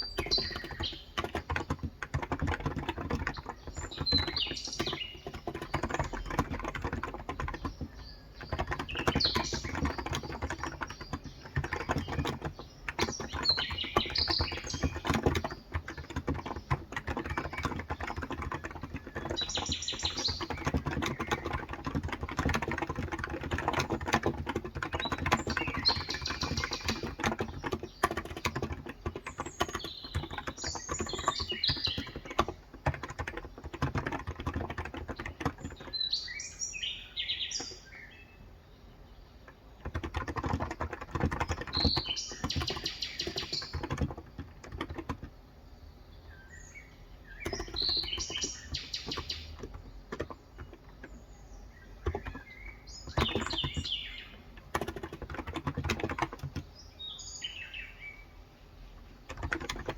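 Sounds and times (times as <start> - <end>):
fast keyboard typing: 0.0 - 36.4, 39.5 - 45.5, 47.3 - 57.7, 59.1 - 59.9
birds chirping: 0.0 - 59.9.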